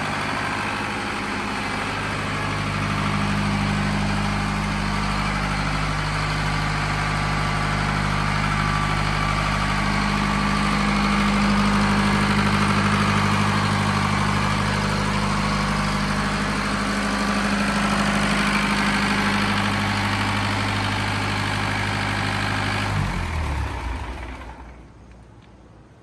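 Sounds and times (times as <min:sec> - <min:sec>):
engine winding down: 0:00.0 - 0:25.0
diesel generator running: 0:00.0 - 0:26.0.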